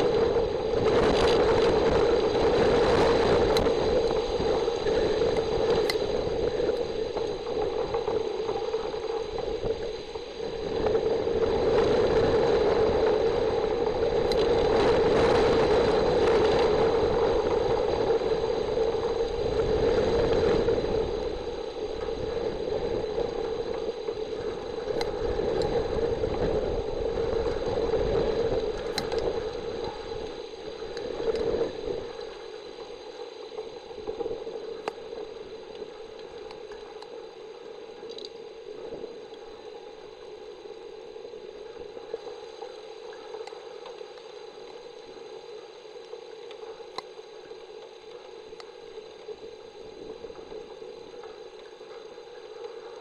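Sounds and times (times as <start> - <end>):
rain pattering on microphone: 0.0 - 53.0.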